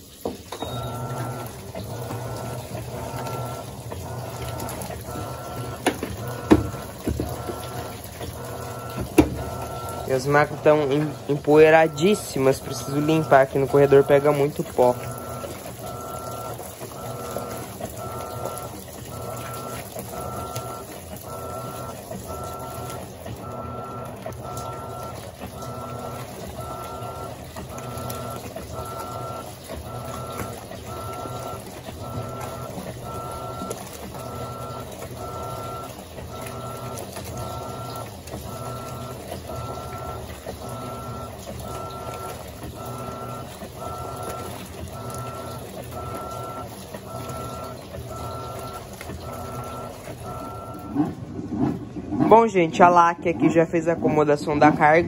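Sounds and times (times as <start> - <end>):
churning water: 0.0 - 55.0
washing machine motor whine: 0.0 - 55.0.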